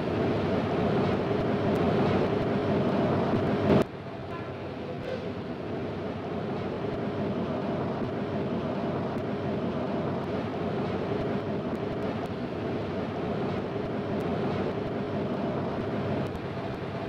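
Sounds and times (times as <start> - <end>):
machine running with steady hum: 0.0 - 17.0.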